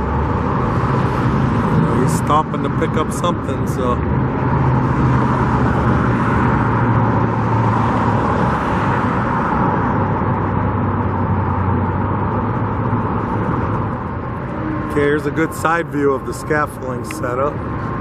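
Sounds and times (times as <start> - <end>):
passing vehicles rushing: 0.0 - 18.0.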